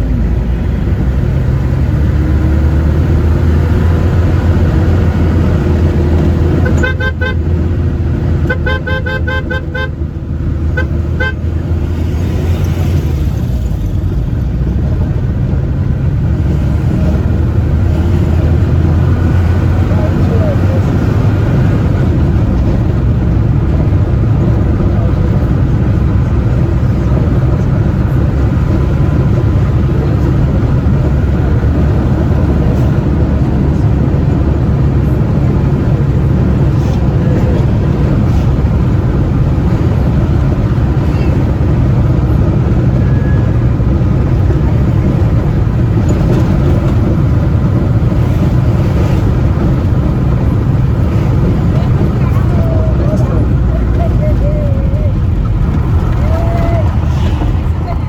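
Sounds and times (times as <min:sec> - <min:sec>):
moving vehicle rumble: 0:00.0 - 0:58.0
road and wind noise: 0:00.0 - 0:58.0.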